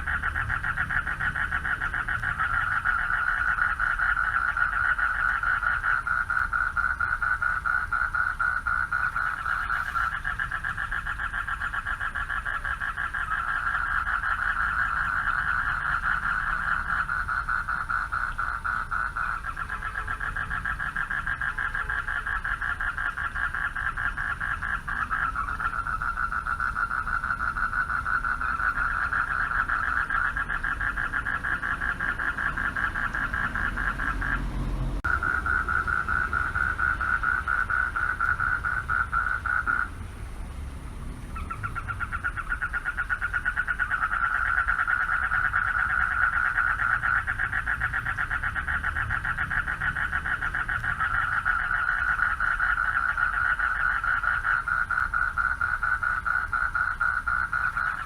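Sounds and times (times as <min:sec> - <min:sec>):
frogs trilling: 0:00.0 - 0:58.0.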